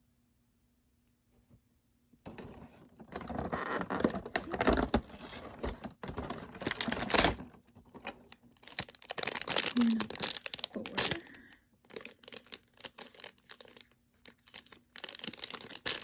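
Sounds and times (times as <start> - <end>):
packaging crinkling and rustling: 2.3 - 16.0.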